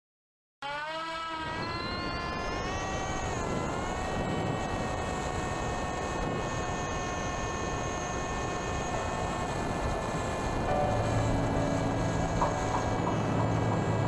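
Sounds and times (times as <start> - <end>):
propeller motor whine: 0.8 - 14.0
rushing wind noise: 1.4 - 14.0.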